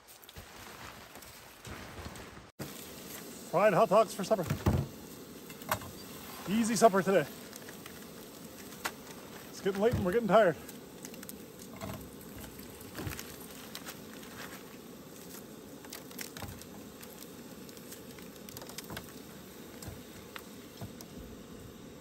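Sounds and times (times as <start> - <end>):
hot dogs sizzling in a frying pan: 2.6 - 22.0.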